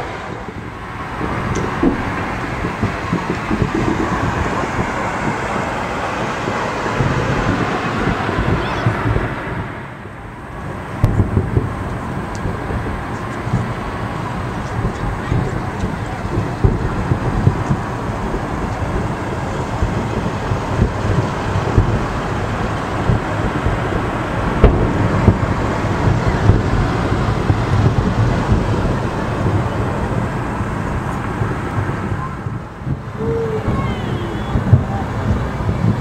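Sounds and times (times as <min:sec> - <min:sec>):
fireworks booms and crackles: 0:00.0 - 0:36.0
sharp fireworks bangs: 0:00.0 - 0:36.0.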